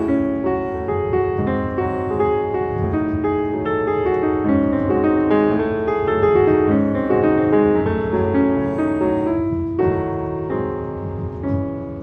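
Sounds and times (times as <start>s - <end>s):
slow solo piano: 0.0s - 12.0s.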